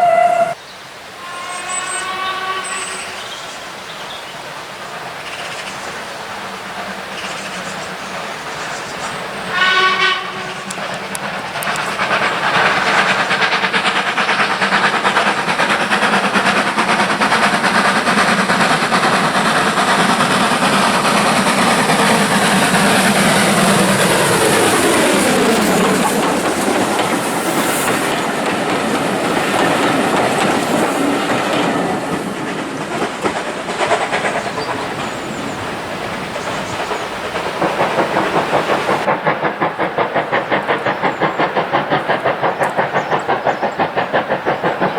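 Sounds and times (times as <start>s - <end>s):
steam train passing: 0.0s - 44.9s.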